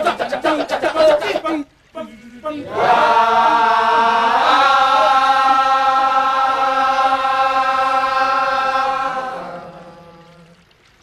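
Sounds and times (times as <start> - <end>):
voices chanting a long note: 0.0 - 10.7.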